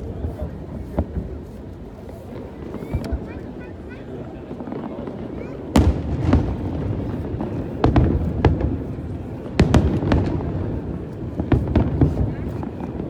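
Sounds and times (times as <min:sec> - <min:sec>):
fireworks bursting with bangs: 0:00.0 - 0:13.0
low rumble of display and crowd: 0:00.0 - 0:13.0.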